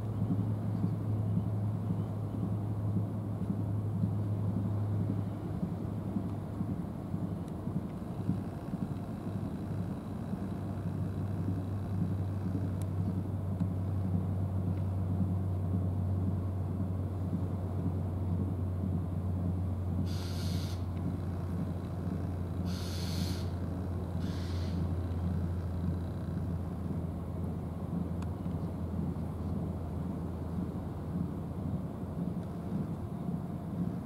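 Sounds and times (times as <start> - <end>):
low engine hum: 0.0 - 34.0.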